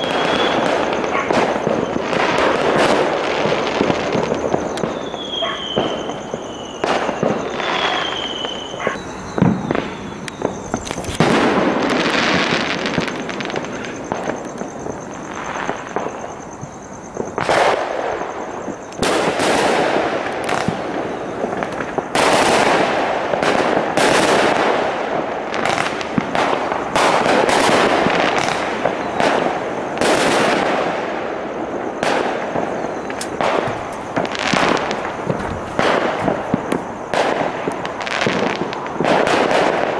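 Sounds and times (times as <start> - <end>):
crackling firework bangs: 0.0 - 39.9
falling firework whistles: 0.0 - 39.9
fireworks bangs and pops: 0.0 - 39.9.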